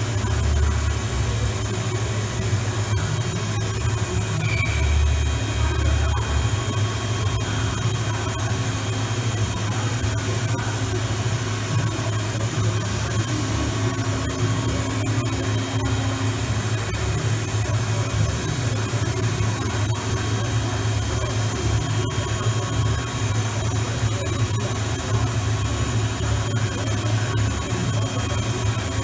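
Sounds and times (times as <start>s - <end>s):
faint high whine: 0.0s - 28.9s
machine low hum: 0.0s - 29.0s.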